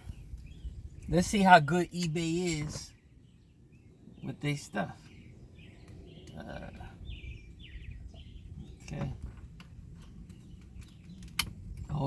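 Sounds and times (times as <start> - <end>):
faint birds chirping: 0.0 - 12.0
low steady background rumble: 0.0 - 12.0.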